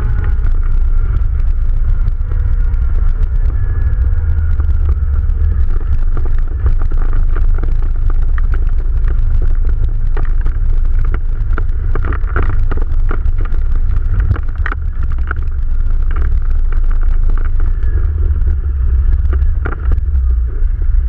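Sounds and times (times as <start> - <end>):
quad bike engine running: 0.0 - 21.0
wind rumble on microphone: 0.0 - 21.0.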